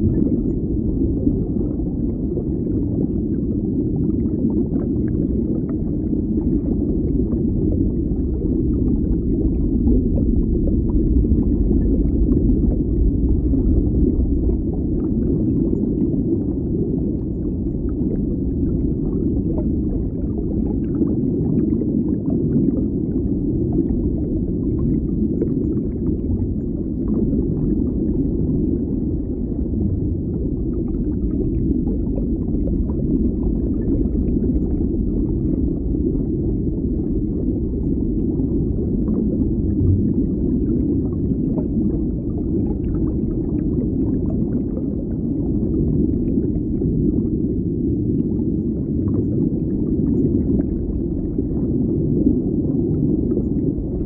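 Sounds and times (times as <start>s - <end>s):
deep underwater rumbling wash: 0.0s - 54.0s
faint underwater crackles: 0.0s - 54.0s.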